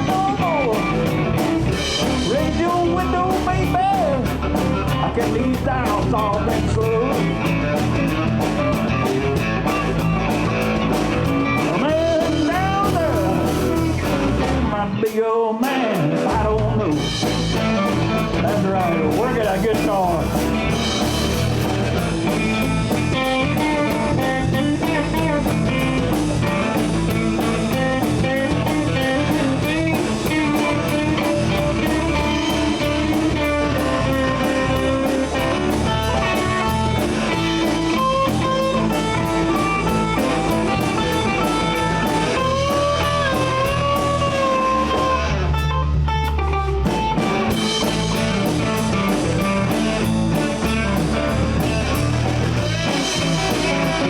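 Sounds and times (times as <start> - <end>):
electric guitar solo: 0.0 - 5.2, 6.4 - 14.7, 17.2 - 54.0
bass guitar: 0.0 - 54.0
drum kit: 0.0 - 54.0.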